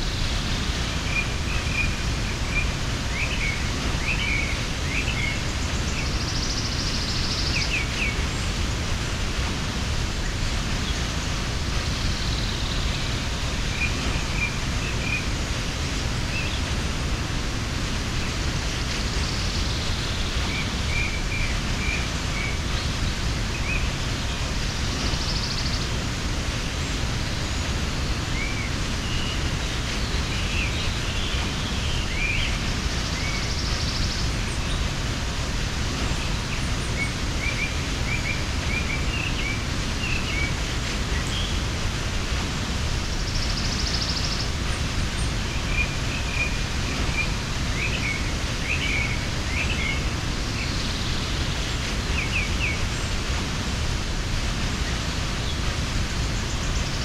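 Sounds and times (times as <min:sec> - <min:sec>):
small birds chirping: 0:00.0 - 0:57.0
waterfall rushing: 0:00.0 - 0:57.0.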